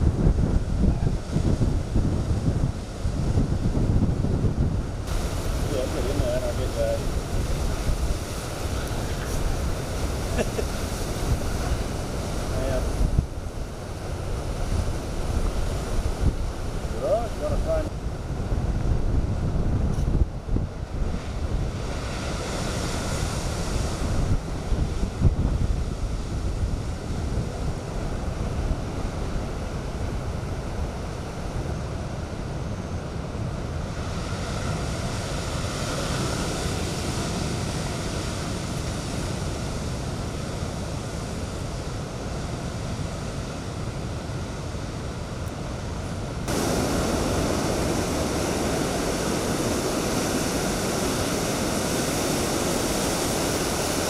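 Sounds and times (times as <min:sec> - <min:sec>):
rush of water: 0:00.0 - 0:54.0
waves crashing: 0:00.0 - 0:54.0
wind buffeting microphone: 0:00.0 - 0:54.0.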